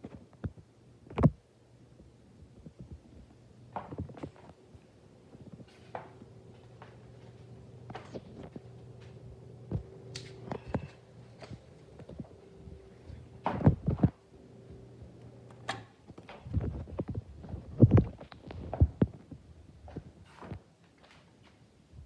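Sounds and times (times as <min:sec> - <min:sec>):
ceiling fan motor humming: 0:00.7 - 0:20.6.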